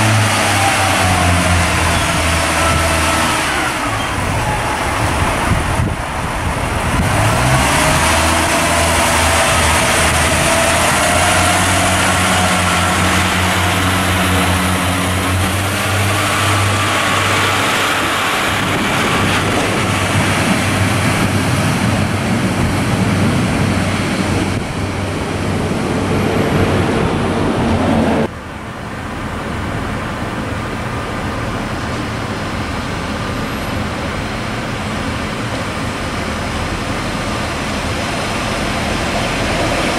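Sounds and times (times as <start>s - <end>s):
diesel train engine under load: 0.0s - 39.9s
distant train approaching: 0.0s - 39.9s.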